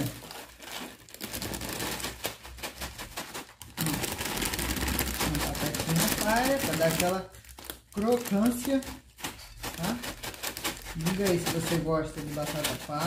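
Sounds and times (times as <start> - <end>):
dry potato sticks pouring: 0.0 - 13.0
plastic snack bag crinkling: 0.0 - 13.0.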